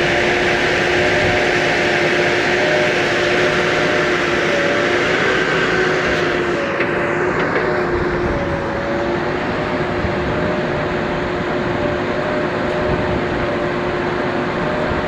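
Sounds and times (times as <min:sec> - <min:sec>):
diesel engine running: 0:00.0 - 0:15.0
high whine: 0:00.0 - 0:15.0.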